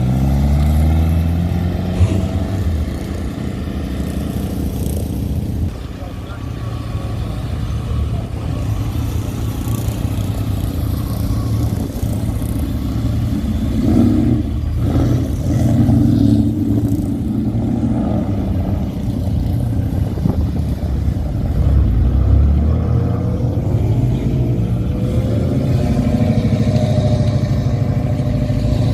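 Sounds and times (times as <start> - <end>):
cars driving past: 0.0 - 28.9.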